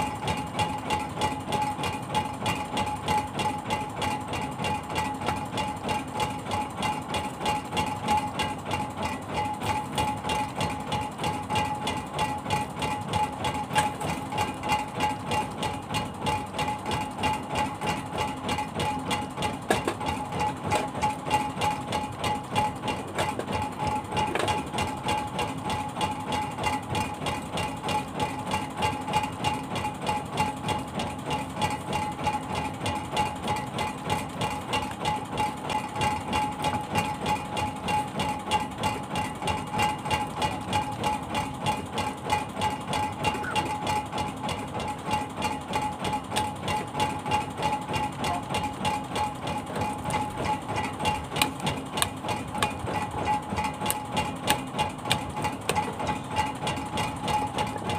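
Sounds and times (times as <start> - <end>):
boat engine idling: 0.0 - 57.9.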